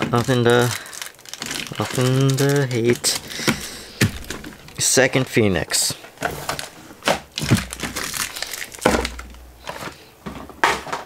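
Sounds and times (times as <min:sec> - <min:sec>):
plastic wrappers crinkling: 0:00.0 - 0:11.0.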